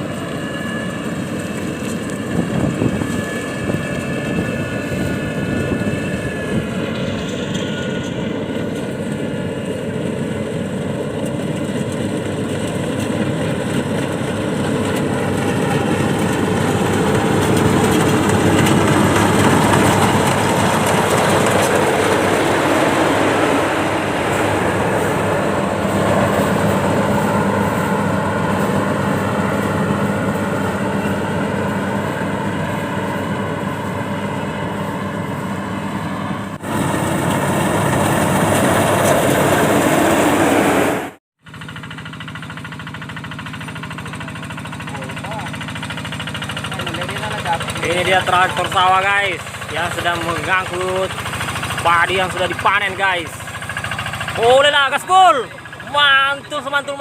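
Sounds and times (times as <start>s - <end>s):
farm machinery engine running: 0.0s - 57.0s.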